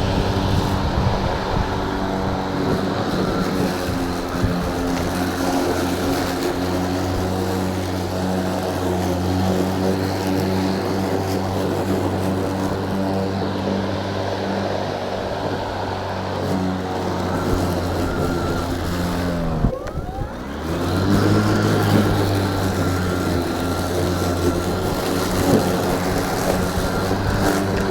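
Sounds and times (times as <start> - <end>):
lawn mower motor humming: 0.0 - 27.9.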